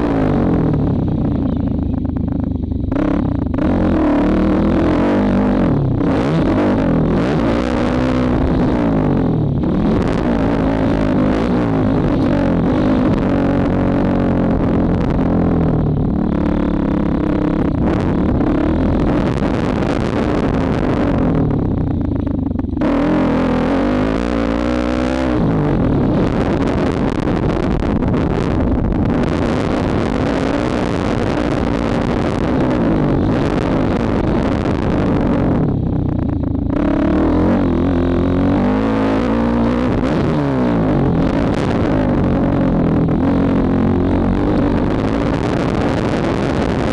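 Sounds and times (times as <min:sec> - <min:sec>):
motocross engine revving: 0:00.0 - 0:46.9.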